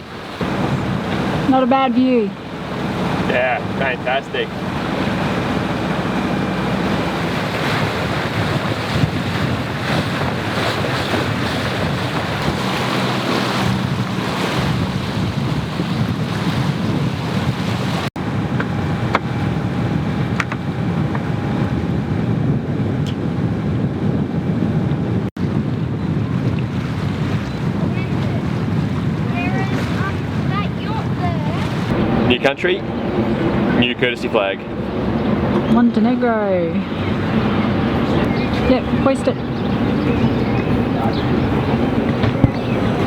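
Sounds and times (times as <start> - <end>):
water rushing along hull: 0.0 - 43.0
wind buffeting microphone: 0.0 - 43.0.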